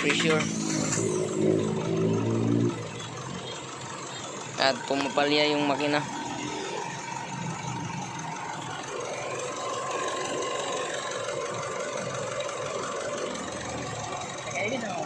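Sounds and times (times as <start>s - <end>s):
diesel engine idling with misfire: 0.0s - 15.0s.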